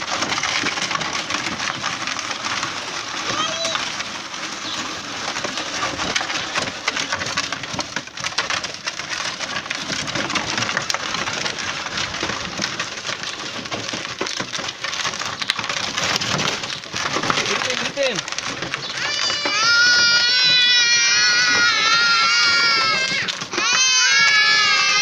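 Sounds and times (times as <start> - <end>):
plastic wheels rattling over gravel: 0.0 - 25.0.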